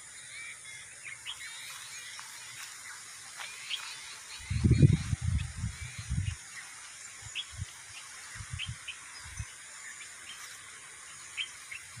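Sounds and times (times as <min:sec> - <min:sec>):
outdoor ambience hiss: 0:00.0 - 0:12.0
small birds chirping: 0:00.0 - 0:12.0.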